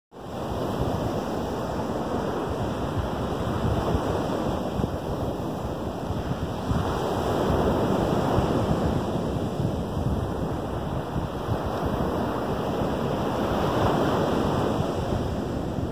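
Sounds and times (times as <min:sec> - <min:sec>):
small waves breaking on beach: 0:00.2 - 0:15.9.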